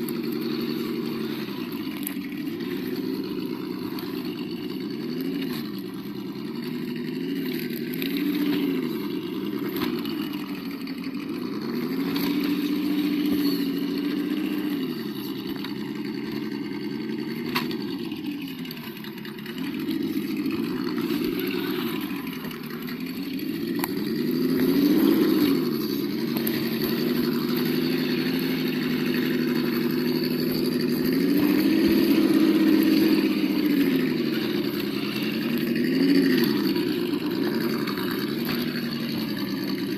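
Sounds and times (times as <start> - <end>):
simulated engine revving from speaker: 0.0 - 39.9.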